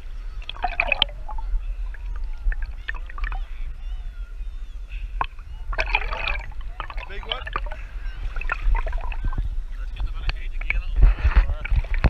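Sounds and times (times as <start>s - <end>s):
sea water sloshing and gurgling: 0.0s - 12.0s
steady low rumble: 0.0s - 12.0s
water splashes: 0.0s - 12.0s.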